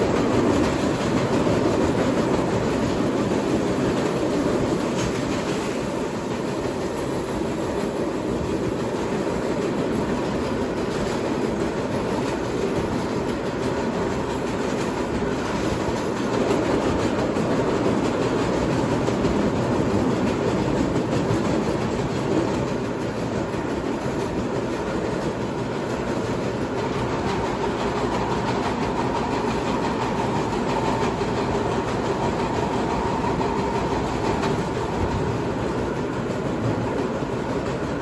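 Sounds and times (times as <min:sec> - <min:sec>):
subway car wheels on rails: 0:00.0 - 0:38.0.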